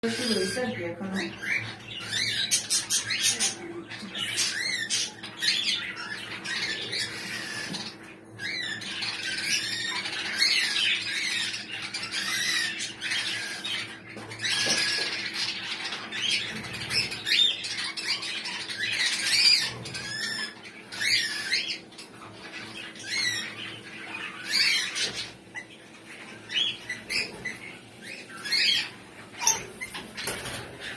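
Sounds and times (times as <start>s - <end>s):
parrots squawking and chirping: 0.0s - 30.9s.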